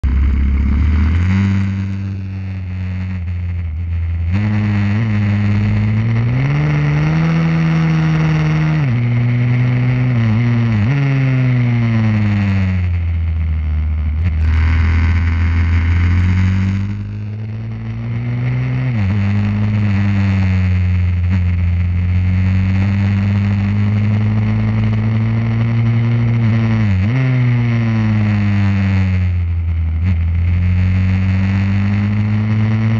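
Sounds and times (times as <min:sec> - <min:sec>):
small motorbike engine revving: 0:00.0 - 0:32.9.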